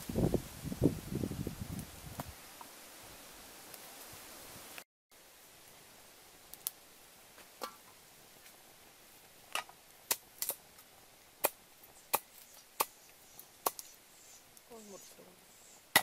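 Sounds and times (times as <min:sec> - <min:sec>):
wood fire crackling and popping: 0:01.3 - 0:04.8, 0:05.5 - 0:14.8.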